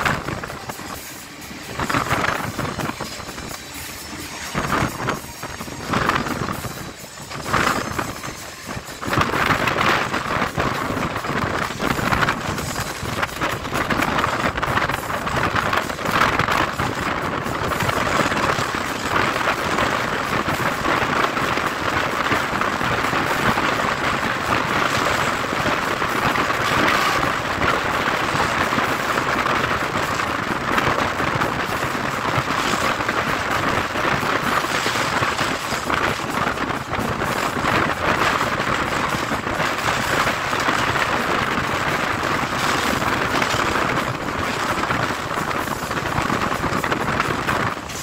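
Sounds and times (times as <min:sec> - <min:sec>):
train rumbling and clattering: 0:00.0 - 0:48.0.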